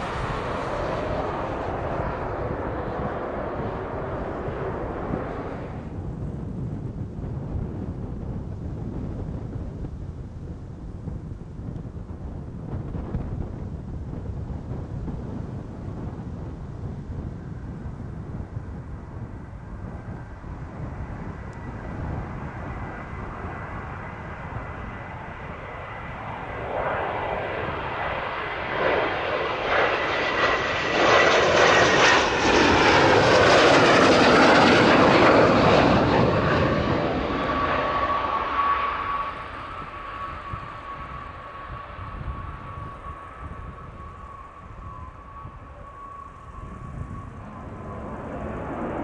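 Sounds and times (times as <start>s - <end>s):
high turbine whine: 0.0s - 8.3s, 11.7s - 49.0s
jet passing close by: 0.0s - 49.0s.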